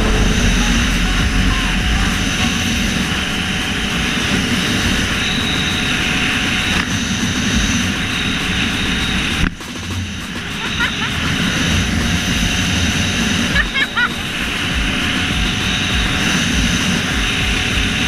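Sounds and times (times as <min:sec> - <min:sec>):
motorcycle engine running: 0:00.0 - 0:18.0
wind noise: 0:00.0 - 0:18.0.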